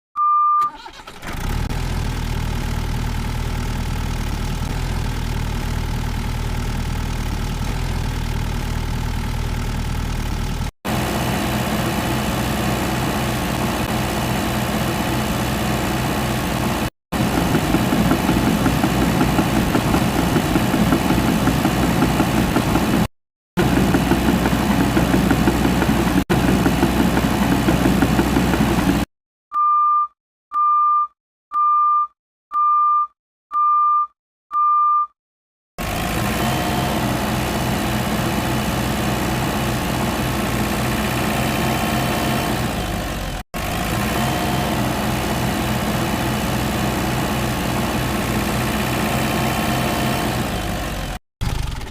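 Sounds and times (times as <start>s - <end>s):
excavator diesel engine idling: 0.7s - 29.1s, 35.9s - 51.8s
excavator engine revving: 0.7s - 29.1s, 35.8s - 51.9s.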